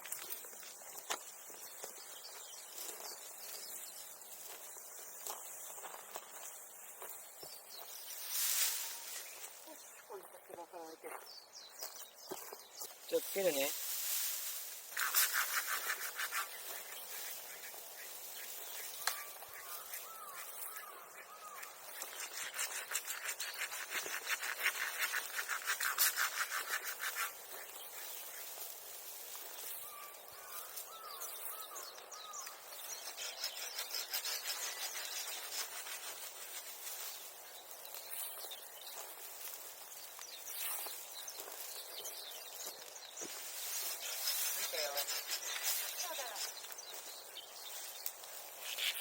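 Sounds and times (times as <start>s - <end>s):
kindling crackling in a bonfire: 0.0s - 10.1s, 12.8s - 49.0s
bird chirping: 0.4s - 13.8s, 14.9s - 28.7s, 29.6s - 49.0s.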